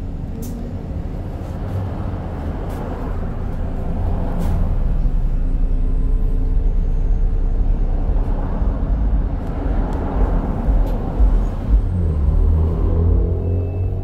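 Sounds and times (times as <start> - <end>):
bus engine rumble: 0.0 - 14.0
road noise: 0.0 - 14.0.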